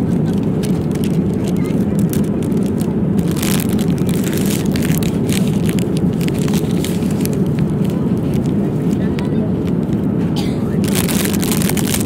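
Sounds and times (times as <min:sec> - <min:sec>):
airliner cabin drone: 0:00.0 - 0:12.0
plastic wrapping crinkling: 0:00.2 - 0:10.0, 0:10.8 - 0:12.0.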